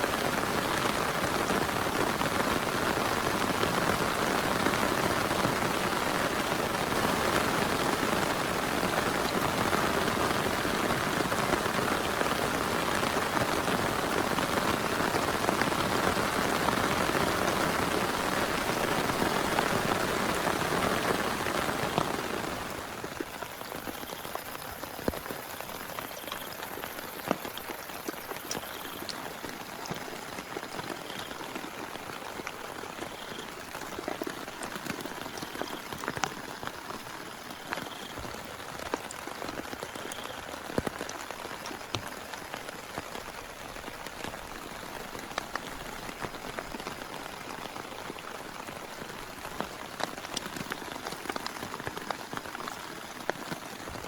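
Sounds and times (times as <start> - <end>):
heavy rain falling: 0.0 - 54.0
rain drops pattering: 0.0 - 54.0.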